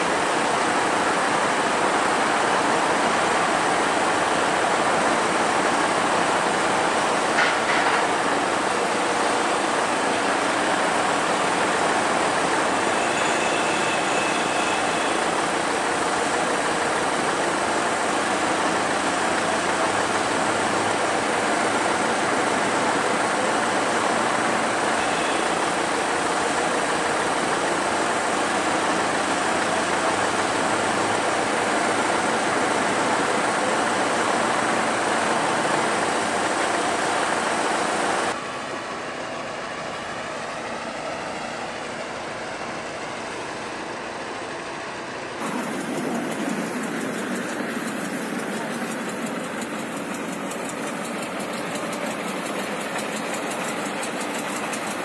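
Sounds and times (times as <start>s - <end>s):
diesel engine running: 0.0s - 41.6s, 44.8s - 55.0s.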